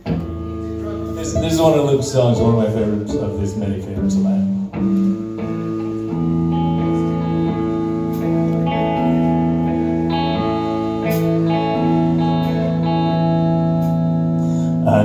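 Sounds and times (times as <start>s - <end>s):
bass guitar: 0.0s - 15.0s
electric guitar chords: 0.0s - 15.0s.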